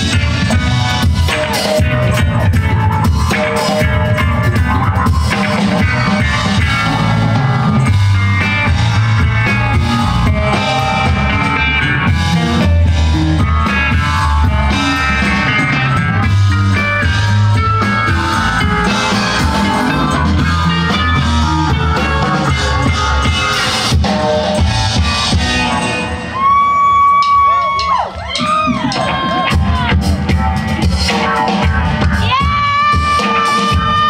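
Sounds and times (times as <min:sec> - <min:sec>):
bass guitar: 0:00.0 - 0:34.0
drum kit: 0:00.0 - 0:34.0
electric guitar: 0:00.0 - 0:34.0.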